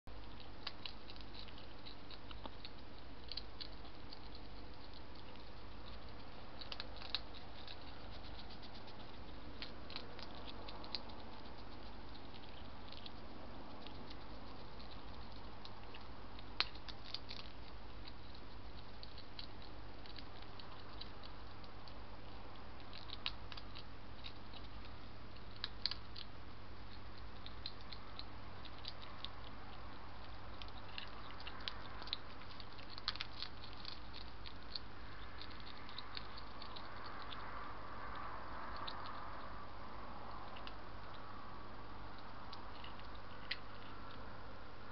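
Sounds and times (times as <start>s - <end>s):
hedgehogs crunching dry food: 0.1s - 44.9s
low hum: 0.1s - 44.9s.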